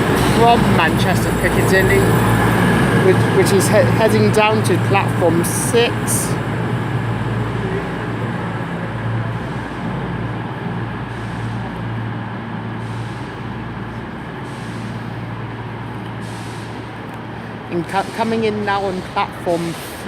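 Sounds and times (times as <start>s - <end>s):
train diesel engines droning: 0.0s - 20.0s.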